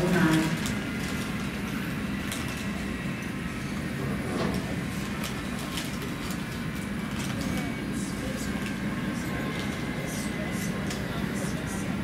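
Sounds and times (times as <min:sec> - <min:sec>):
airport background drone: 0:00.0 - 0:12.0.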